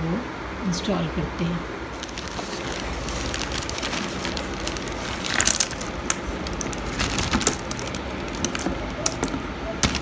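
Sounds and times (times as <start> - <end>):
plastic bag crinkling: 1.9 - 10.0.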